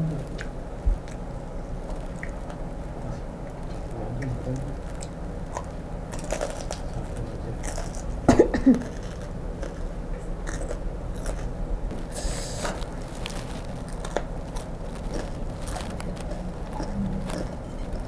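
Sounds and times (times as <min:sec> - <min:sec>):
crunchy biting and chewing: 0:00.2 - 0:18.0.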